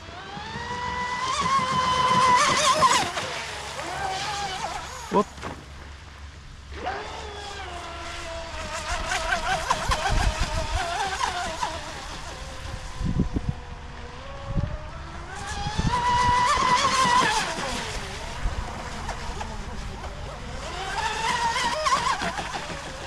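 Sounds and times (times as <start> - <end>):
rc speedboat motor whine: 0.0 - 23.0.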